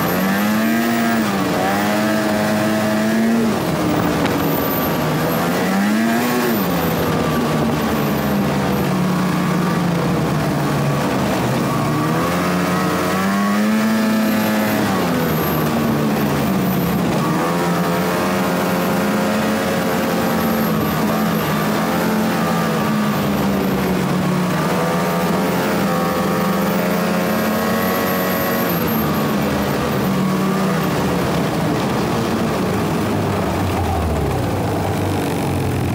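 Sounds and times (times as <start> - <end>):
snowmobile engine revving: 0.0 - 35.9.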